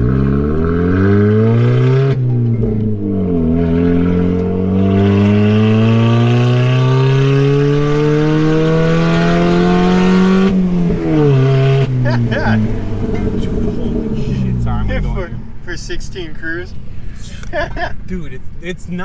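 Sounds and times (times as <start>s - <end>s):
car engine accelerating: 0.0s - 15.8s.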